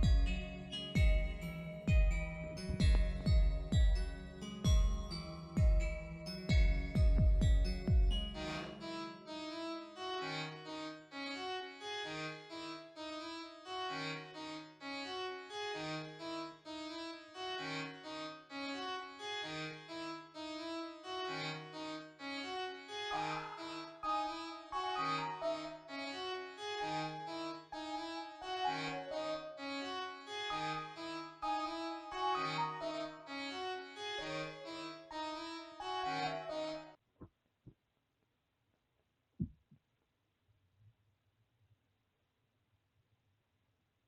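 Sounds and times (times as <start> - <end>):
keyboard melody with bass note: 0.0 - 37.0.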